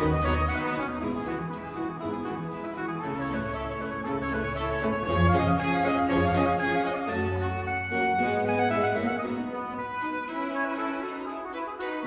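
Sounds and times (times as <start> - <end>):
baroque orchestral strings: 0.0 - 12.0.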